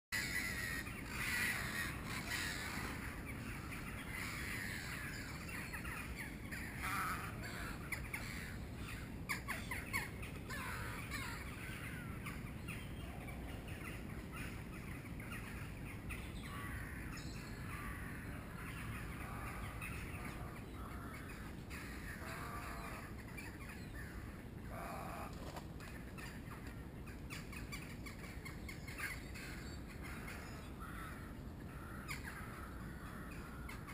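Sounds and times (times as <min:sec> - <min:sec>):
harsh bird croaks and caws: 0:00.2 - 0:33.9
low background rumble: 0:00.2 - 0:33.9.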